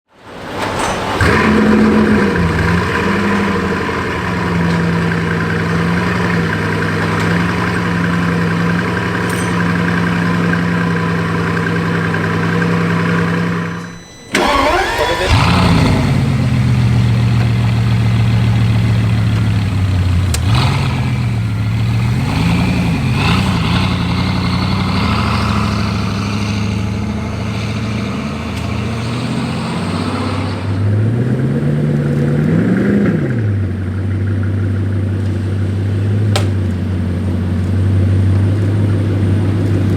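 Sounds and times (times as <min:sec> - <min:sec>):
car engine starting and idling: 0:00.2 - 0:39.9
car engine revving: 0:00.4 - 0:39.9.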